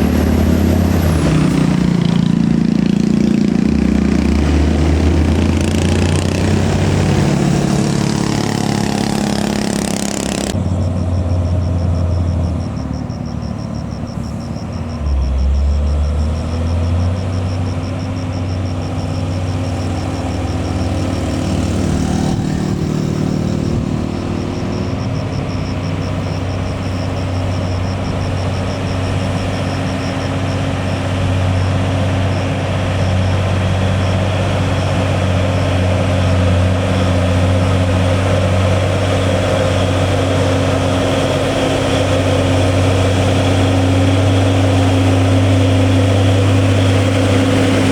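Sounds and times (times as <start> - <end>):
diesel truck engine climbing: 0.0 - 47.9.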